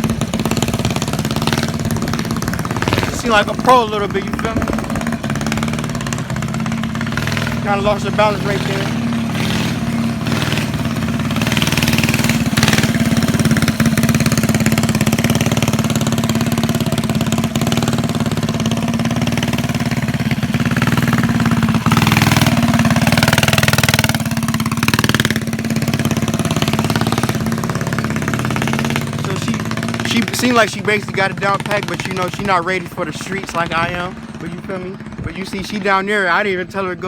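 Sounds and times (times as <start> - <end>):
mini bike engine droning: 0.0 - 37.0.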